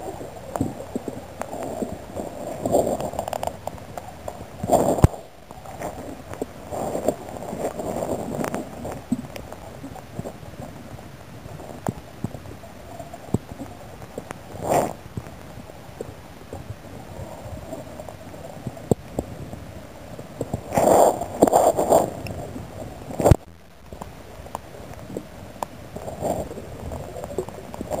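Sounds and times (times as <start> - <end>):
muffled underwater clicks and knocks: 0.0 - 16.8, 17.5 - 28.0
dull low underwater rumble: 0.0 - 28.0
underwater rushing: 0.0 - 28.0.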